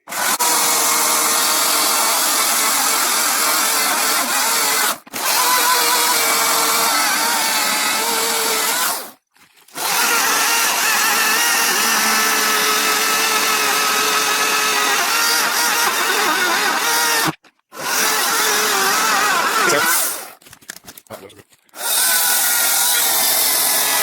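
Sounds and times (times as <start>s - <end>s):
electric chainsaw running: 0.0s - 20.4s, 21.8s - 24.0s.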